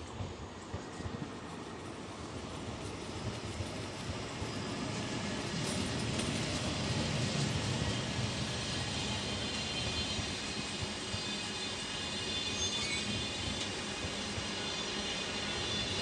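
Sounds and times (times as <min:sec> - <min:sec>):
train rumbling past on tracks: 0:00.0 - 0:16.0.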